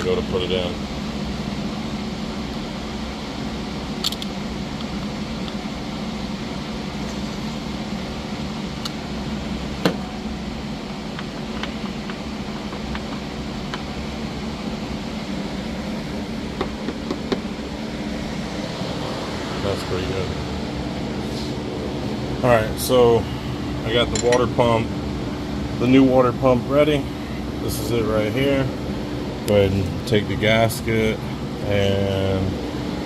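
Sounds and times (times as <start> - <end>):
fan humming: 0.0 - 33.0.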